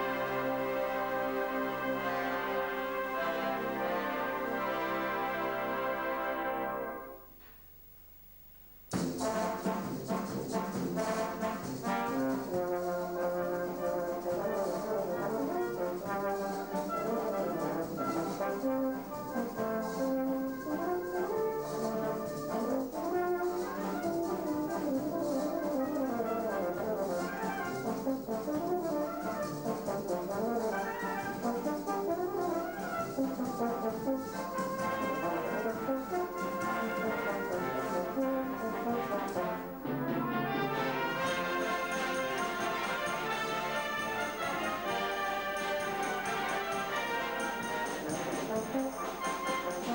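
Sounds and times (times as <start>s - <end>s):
brass band playing: 0.0s - 7.5s, 8.9s - 49.9s.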